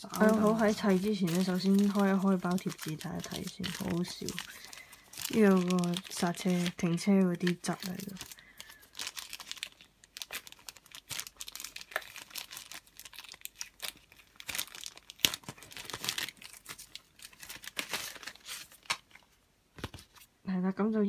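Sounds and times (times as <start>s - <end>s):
plastic bag crinkling and tearing: 0.0s - 20.2s.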